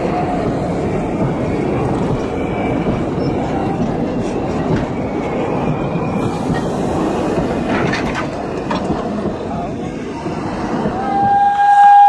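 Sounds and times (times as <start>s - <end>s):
train wheels rolling over rails: 0.0s - 12.0s.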